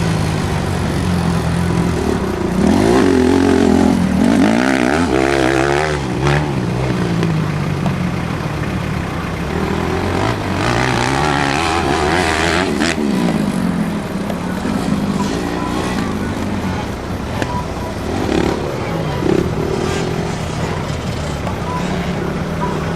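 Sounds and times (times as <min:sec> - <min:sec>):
motorcycle engines revving: 0:00.0 - 0:22.9.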